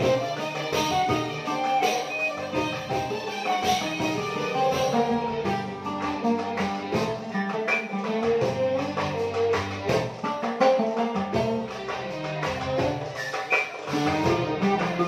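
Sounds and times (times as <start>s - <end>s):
oud melody: 0.0s - 15.0s
percussion: 0.0s - 15.0s
violins cellos and keyboard: 0.0s - 15.0s.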